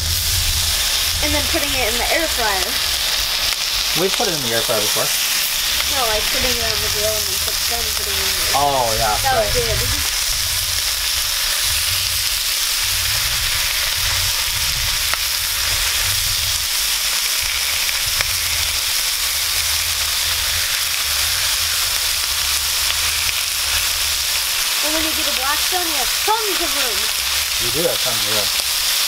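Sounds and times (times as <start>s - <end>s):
low rumble: 0.0s - 28.6s
food sizzling on a griddle: 0.0s - 29.0s.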